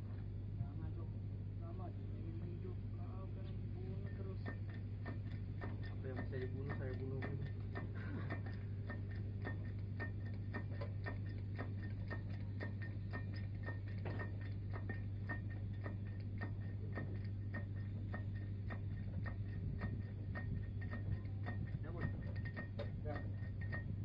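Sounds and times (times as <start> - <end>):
constant low hum: 0.0 - 24.0
mechanical ticking: 3.0 - 24.0.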